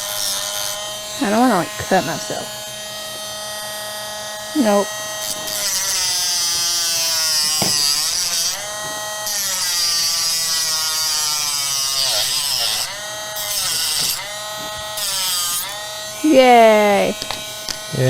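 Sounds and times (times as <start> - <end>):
power tool motor whirring: 0.0 - 18.0.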